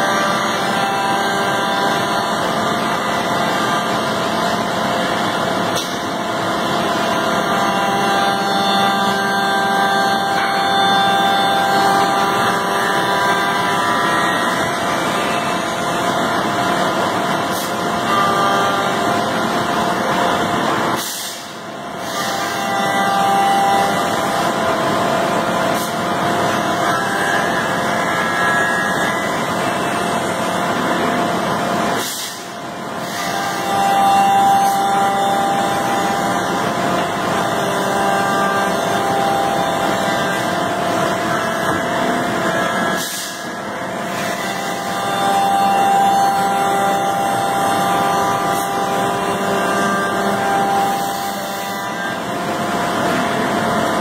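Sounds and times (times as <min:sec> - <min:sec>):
cnc machine cutting wood: 0:00.0 - 0:54.0.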